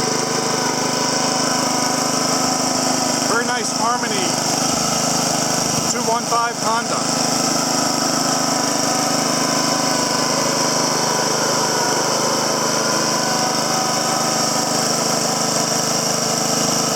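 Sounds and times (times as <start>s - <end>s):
lawn mower engine running: 0.0s - 16.9s.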